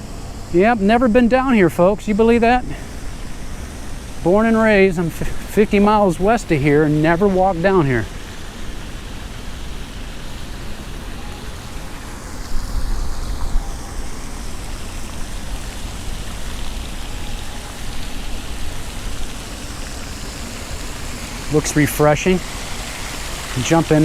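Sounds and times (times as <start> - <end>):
fountain water splashing: 0.0 - 24.0.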